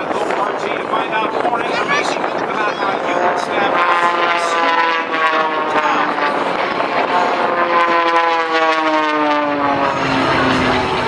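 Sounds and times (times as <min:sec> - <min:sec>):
propeller airplanes flying past: 0:00.0 - 0:11.0.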